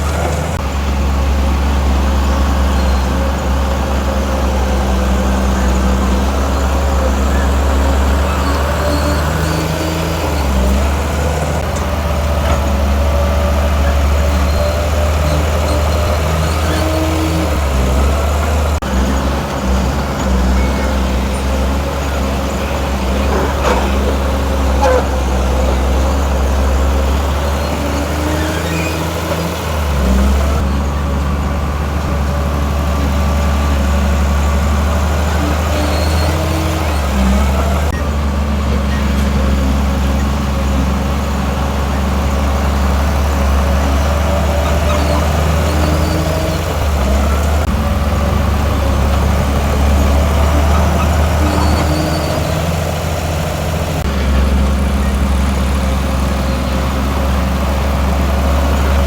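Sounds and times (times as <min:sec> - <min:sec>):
heavy diesel engine revving: 0:00.0 - 0:59.0.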